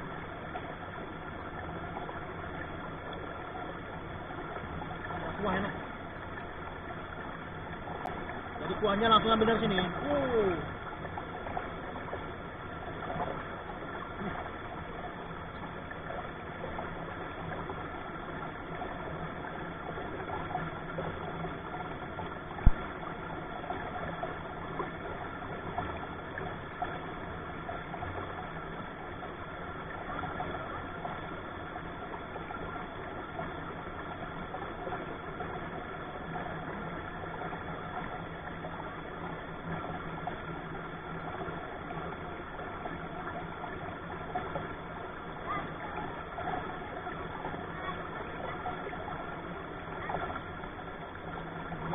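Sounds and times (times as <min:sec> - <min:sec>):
stream running over stones: 0:00.0 - 0:51.9.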